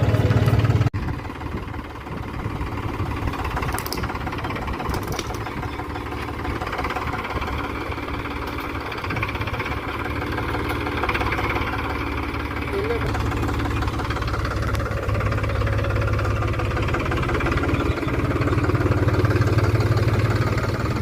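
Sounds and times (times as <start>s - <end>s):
tractor diesel engine knocking: 0.0s - 21.0s.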